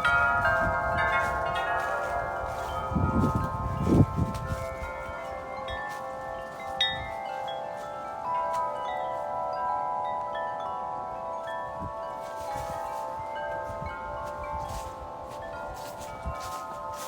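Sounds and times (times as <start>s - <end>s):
wind buffeting microphone: 0.0s - 9.6s, 11.1s - 17.0s
wind chimes ringing: 0.0s - 17.0s.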